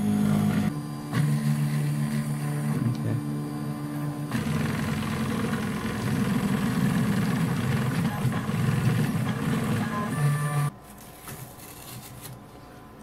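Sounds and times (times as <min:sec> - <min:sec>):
printer stepper motors whirring: 0:00.0 - 0:10.7.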